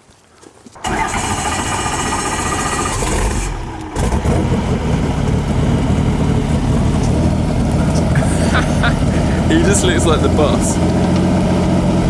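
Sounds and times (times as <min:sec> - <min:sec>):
helicopter turbine whine: 0:00.9 - 0:12.0.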